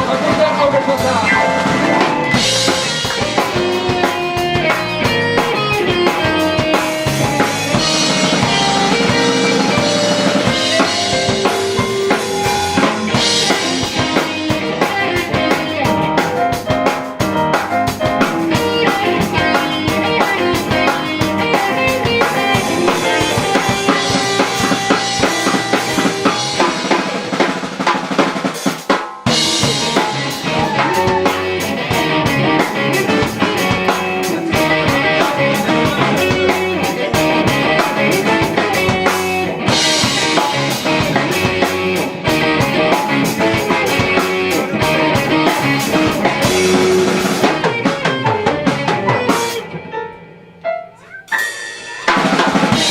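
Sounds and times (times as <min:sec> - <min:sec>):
drum kit beat: 0:00.0 - 0:49.7, 0:51.2 - 0:52.9
rock band playing: 0:00.0 - 0:52.9.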